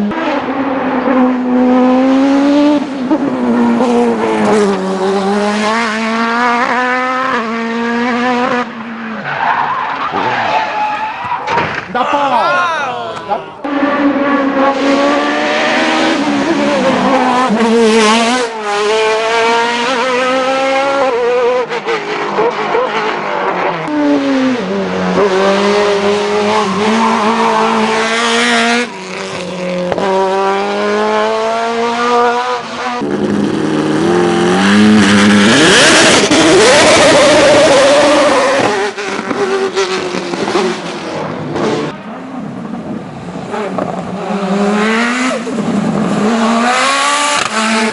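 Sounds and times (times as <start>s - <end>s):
race car engines at full throttle: 0.0s - 47.9s.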